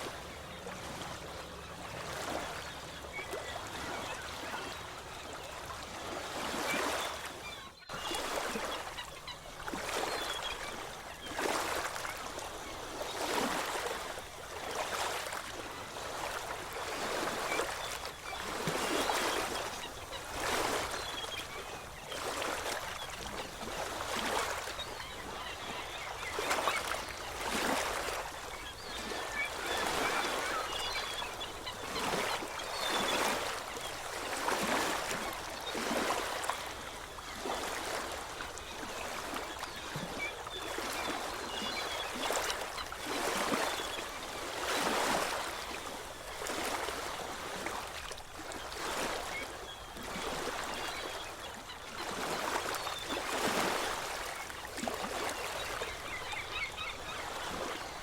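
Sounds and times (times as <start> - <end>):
small waves washing onto shore: 0.0 - 58.0.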